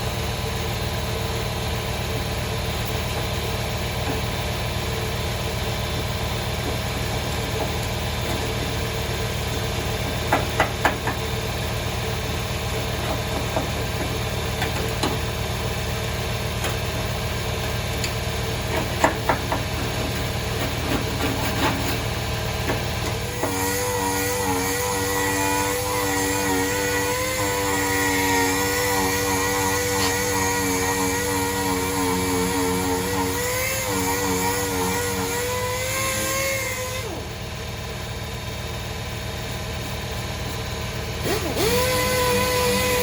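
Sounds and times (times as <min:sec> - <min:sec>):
motor running: 0:00.0 - 0:43.0.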